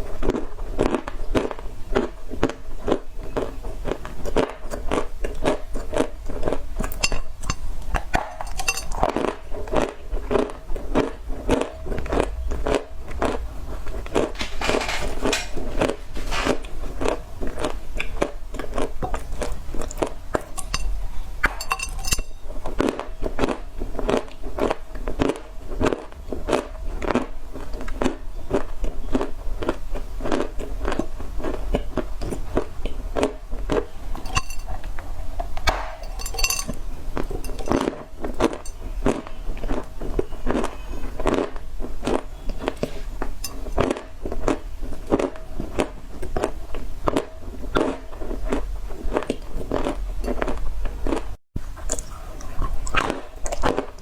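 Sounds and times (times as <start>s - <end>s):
chewing crunchy clay: 0.0s - 14.6s, 15.3s - 54.0s.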